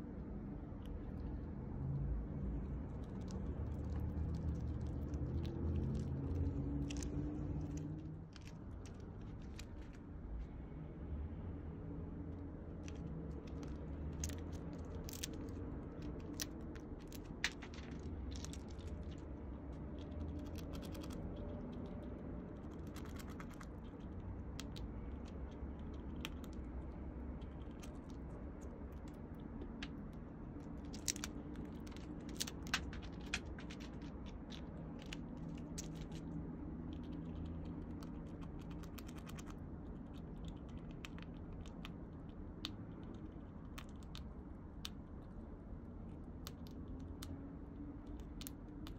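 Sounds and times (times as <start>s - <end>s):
low hum: 0.0s - 48.9s
squirrel gnawing nuts: 0.0s - 48.9s.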